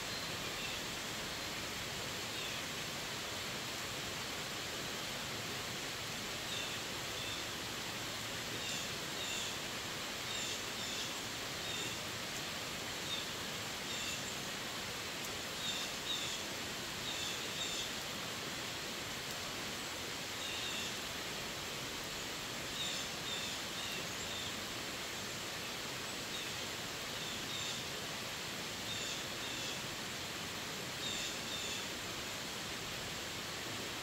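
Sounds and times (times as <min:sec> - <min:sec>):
rain falling on leaves: 0:00.0 - 0:34.0.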